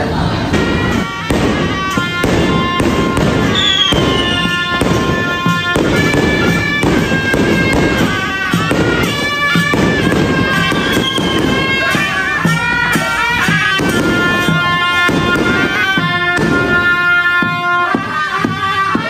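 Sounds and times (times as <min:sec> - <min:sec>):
firecrackers crackling: 0:00.0 - 0:19.0
shrill reedy horn melody: 0:00.0 - 0:19.0.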